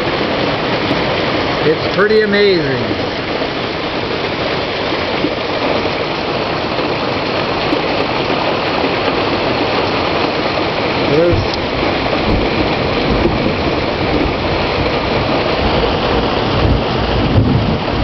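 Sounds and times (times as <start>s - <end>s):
heavy hail falling: 0.0s - 18.0s.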